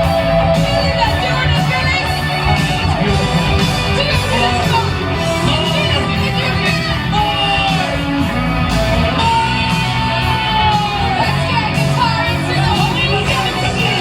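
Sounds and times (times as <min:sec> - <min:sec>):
rock music with singing: 0:00.0 - 0:14.0.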